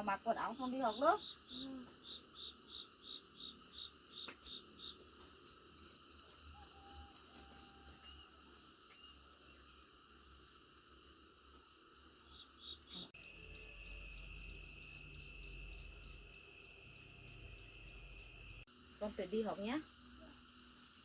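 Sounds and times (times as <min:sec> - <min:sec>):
insect trills: 0:00.0 - 0:21.0.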